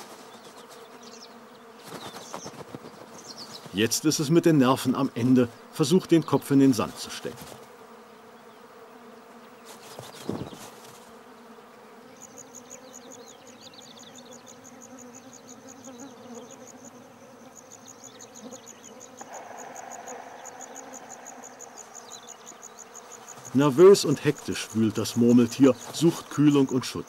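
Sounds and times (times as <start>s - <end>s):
flies buzzing: 0.0s - 27.0s.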